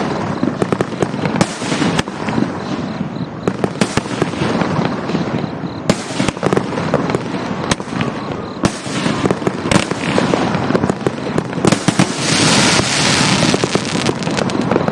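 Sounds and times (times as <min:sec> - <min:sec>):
firework cake popping and crackling: 0:00.0 - 0:14.9.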